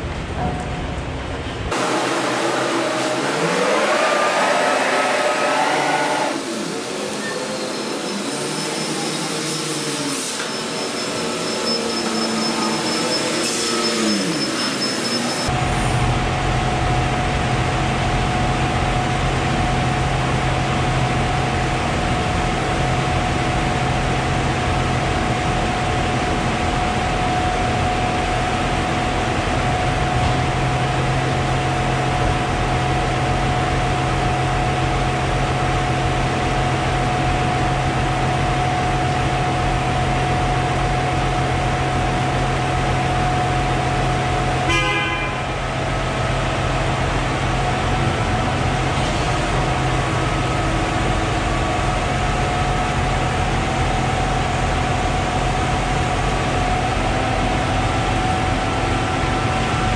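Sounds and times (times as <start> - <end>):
machine drone with whine: 0.0 - 59.9.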